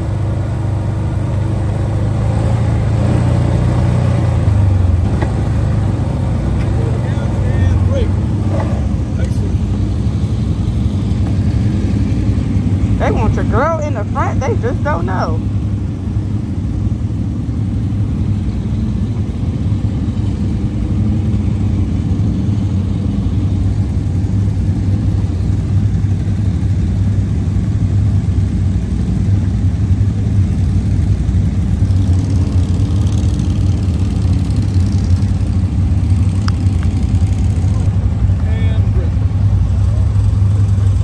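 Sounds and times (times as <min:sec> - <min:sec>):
atv engine droning: 0:00.0 - 0:41.0.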